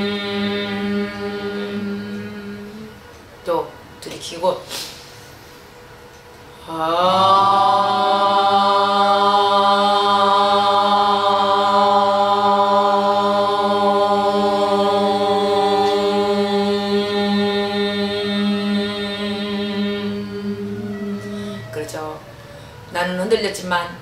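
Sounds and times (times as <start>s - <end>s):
voices holding a sung note: 0.0s - 3.1s, 6.5s - 24.0s.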